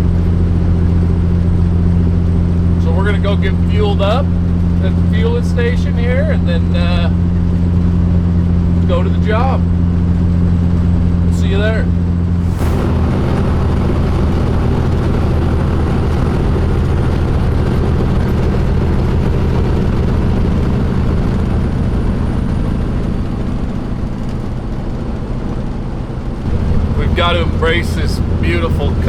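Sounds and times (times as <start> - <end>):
road and wind rumble: 0.0 - 29.0
truck diesel engine drone: 0.0 - 29.0.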